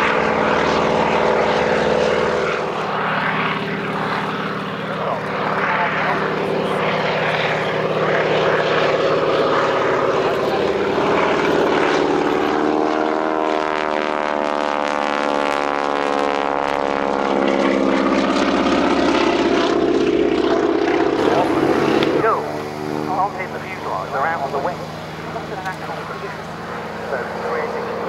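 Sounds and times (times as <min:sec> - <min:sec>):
biplane flying past: 0:00.0 - 0:28.0.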